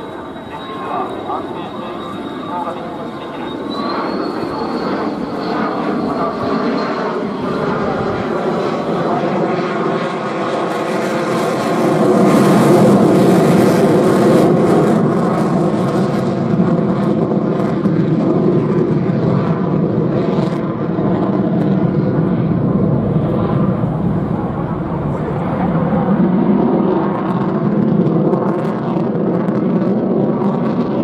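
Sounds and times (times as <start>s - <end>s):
fighter jet engine roar: 0.0s - 31.0s.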